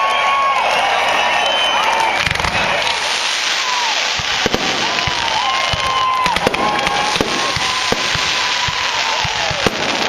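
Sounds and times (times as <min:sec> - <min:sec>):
whistling fireworks: 0:00.0 - 0:10.0
fireworks crackle: 0:01.8 - 0:10.0
fireworks bangs: 0:01.9 - 0:10.0.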